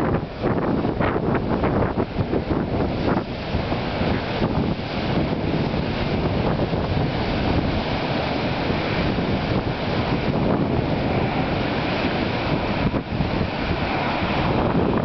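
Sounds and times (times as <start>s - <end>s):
waves washing in: 0.0s - 15.0s
wind buffeting the microphone: 0.0s - 15.0s.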